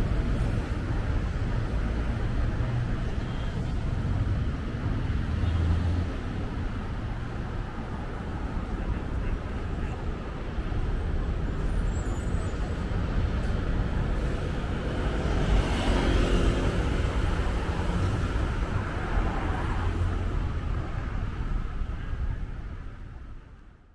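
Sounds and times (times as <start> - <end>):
street traffic rumble: 0.0 - 23.9.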